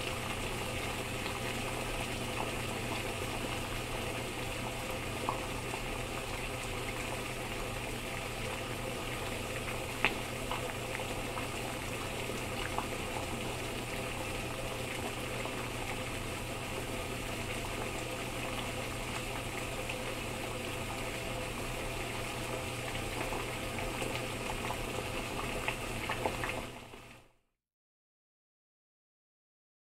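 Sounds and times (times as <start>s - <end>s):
water boiling and bubbling: 0.0s - 27.4s.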